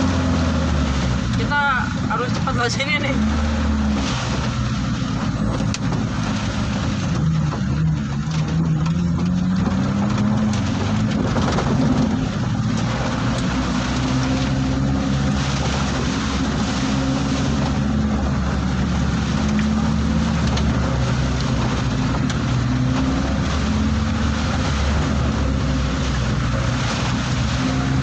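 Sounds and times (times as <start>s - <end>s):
vehicle engine humming: 0.0s - 28.0s
wind: 0.0s - 28.0s.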